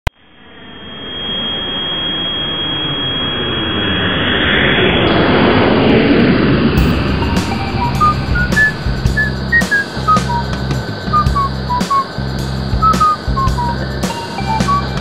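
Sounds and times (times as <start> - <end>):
jet engine rush with high whine: 0.2 - 15.0.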